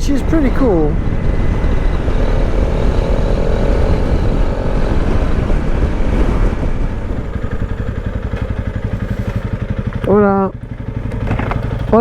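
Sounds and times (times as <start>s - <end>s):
wind buffeting microphone: 0.0s - 10.3s
motorcycle engine rumble: 0.0s - 12.0s.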